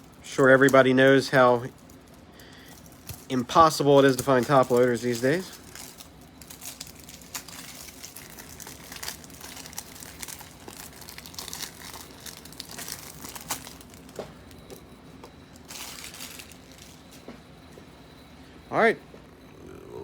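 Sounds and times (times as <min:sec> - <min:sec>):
plastic packaging crinkling: 0:00.0 - 0:17.6.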